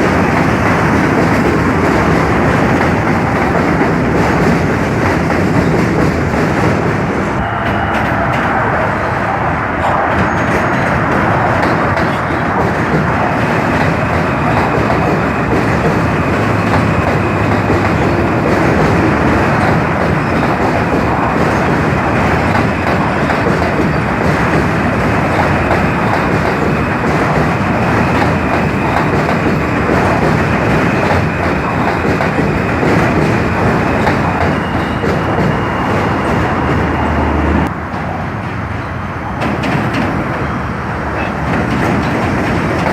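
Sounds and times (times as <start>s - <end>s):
rapid clicking over track: 0.0s - 7.2s, 10.1s - 36.8s, 41.4s - 42.9s
subway train wheels rumbling: 0.0s - 42.9s.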